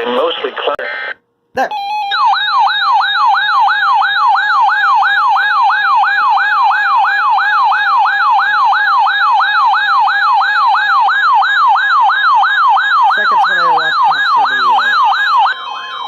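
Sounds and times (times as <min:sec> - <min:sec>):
electronic siren yelp: 0:01.6 - 0:16.0
steady high tone: 0:01.6 - 0:16.0.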